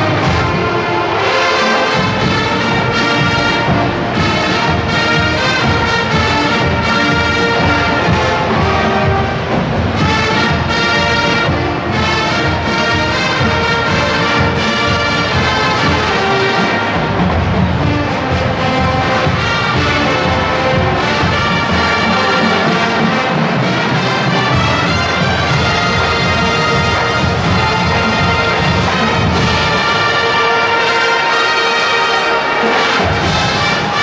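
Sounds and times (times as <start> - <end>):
drums: 0.0 - 31.1, 32.7 - 34.0
brass playing a tune: 0.0 - 34.0
marching band playing: 0.0 - 34.0.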